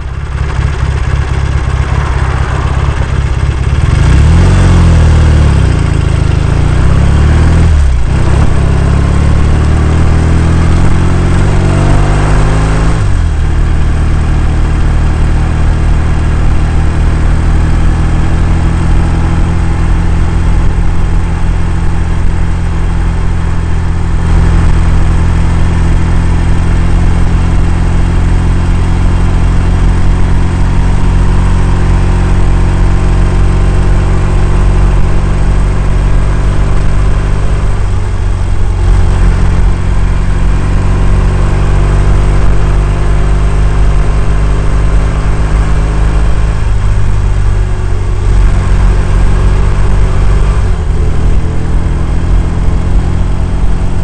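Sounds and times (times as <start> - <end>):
motorcycle engine pulling away: 0.0 - 54.0.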